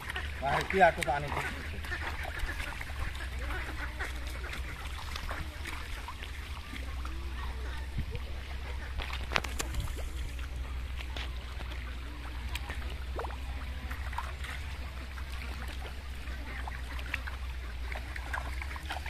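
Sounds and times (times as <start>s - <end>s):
fish splashing in water: 0.0s - 19.0s
steady low hum: 0.0s - 19.0s.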